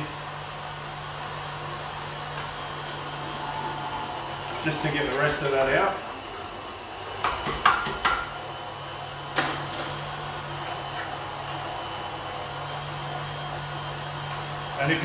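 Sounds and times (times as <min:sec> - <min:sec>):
stand mixer motor humming: 0:00.0 - 0:14.9.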